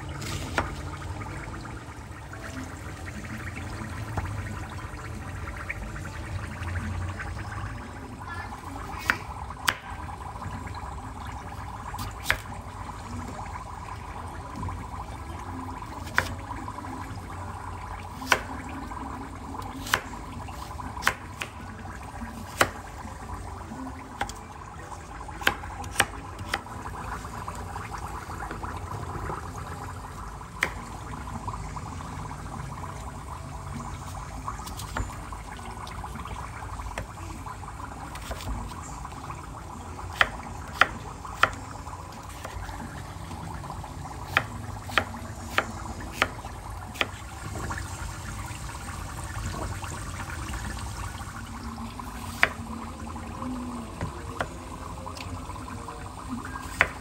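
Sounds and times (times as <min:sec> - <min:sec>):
water running: 0:00.0 - 0:57.0.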